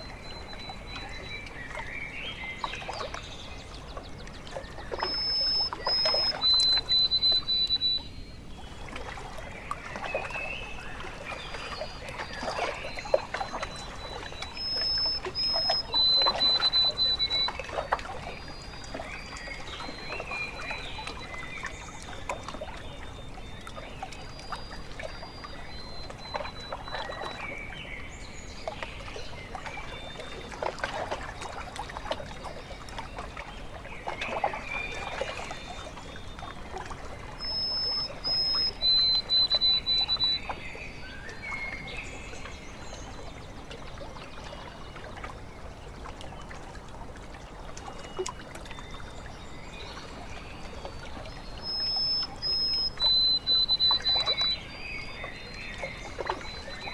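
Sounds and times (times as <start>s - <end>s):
small waves lapping: 0.0s - 56.9s
songbirds calling: 0.0s - 56.9s.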